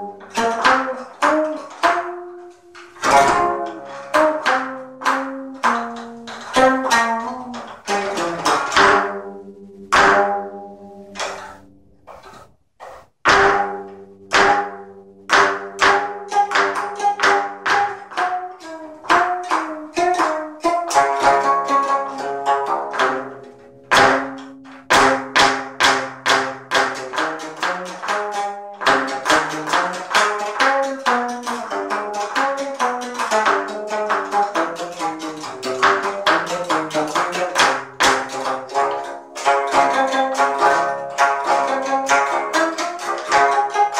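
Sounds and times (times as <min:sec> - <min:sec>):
zither strings struck with stick: 0:00.0 - 0:43.9.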